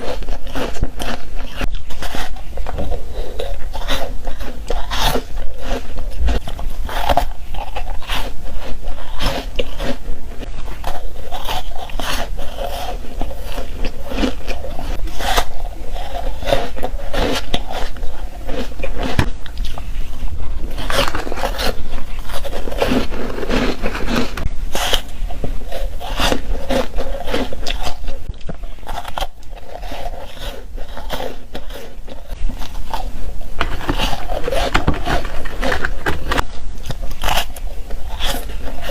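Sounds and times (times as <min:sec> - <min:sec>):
ice crunching being bitten: 0:00.0 - 0:20.0, 0:20.6 - 0:38.9.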